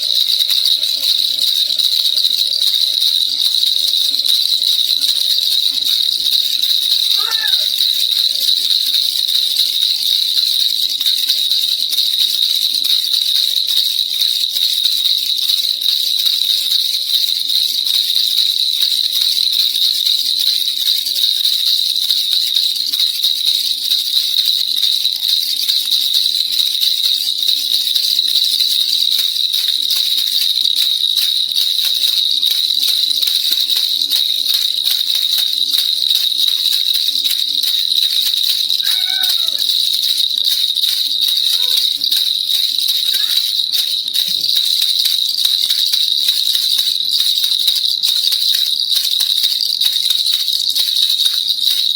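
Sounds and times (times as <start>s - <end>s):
baby rattle jingling: 0.0s - 51.9s.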